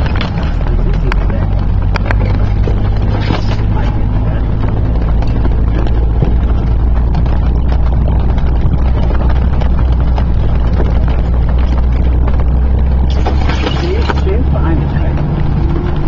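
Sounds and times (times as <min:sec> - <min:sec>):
engine droning: 0:00.0 - 0:16.0
vehicle body rattling: 0:00.0 - 0:16.0.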